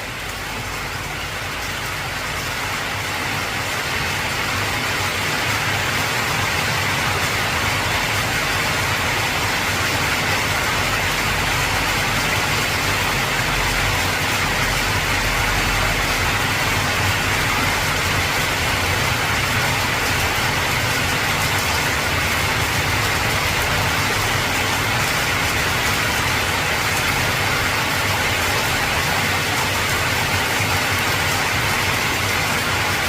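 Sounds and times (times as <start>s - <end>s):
heavy rain on a tin roof: 0.0s - 33.0s.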